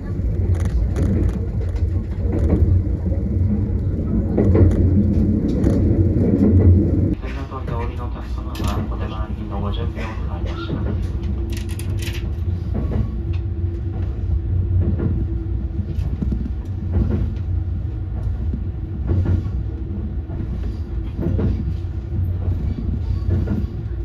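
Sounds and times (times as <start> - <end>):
constant hum: 0.0 - 24.0
train rumble: 0.0 - 24.0.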